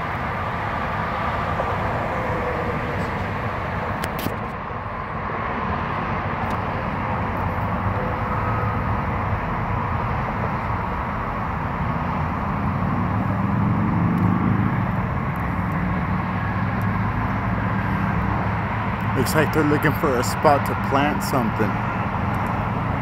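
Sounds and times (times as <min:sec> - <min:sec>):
vehicle engines rumbling: 0:00.0 - 0:23.0.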